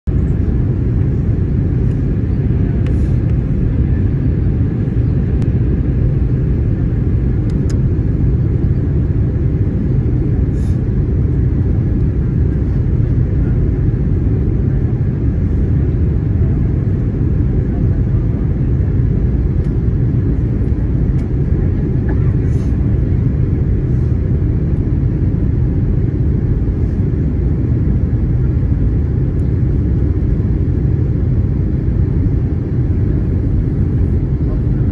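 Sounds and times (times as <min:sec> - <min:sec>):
airplane cabin engine rumble: 0:00.0 - 0:34.9.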